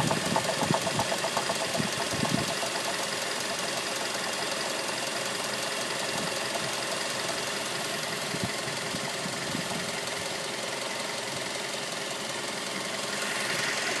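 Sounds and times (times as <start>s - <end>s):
car engine running with knocking: 0.0s - 14.0s.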